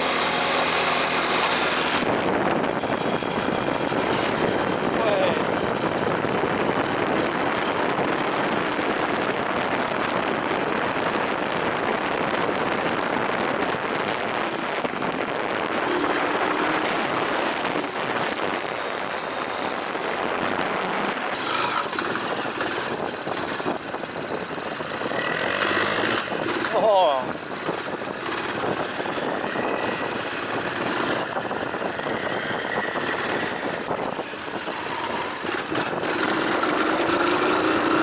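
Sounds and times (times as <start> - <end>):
dirt bike engine running: 0.0 - 38.0.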